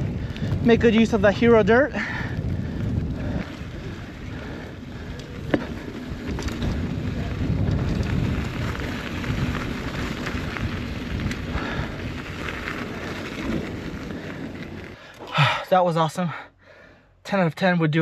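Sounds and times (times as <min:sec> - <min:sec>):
wind rumble on microphone: 0:00.0 - 0:15.0
bike tyres on dirt trail: 0:00.0 - 0:17.0.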